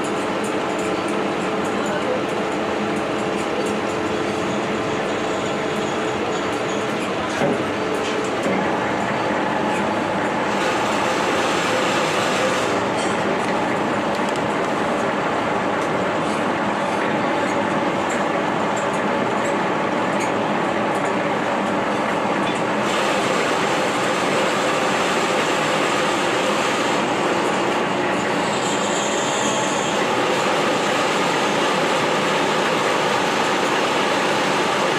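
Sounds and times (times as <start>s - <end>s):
metal lathe rumbling: 0.0s - 19.7s, 22.1s - 34.9s.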